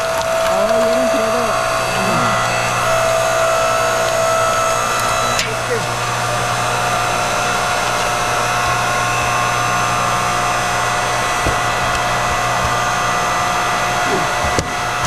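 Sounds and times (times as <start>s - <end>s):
log splitter motor humming: 0.0s - 15.0s.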